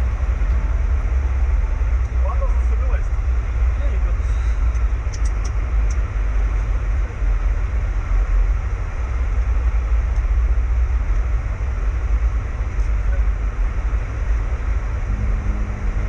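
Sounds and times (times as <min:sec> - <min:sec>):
cockpit airflow and engine rumble: 0:00.0 - 0:16.0.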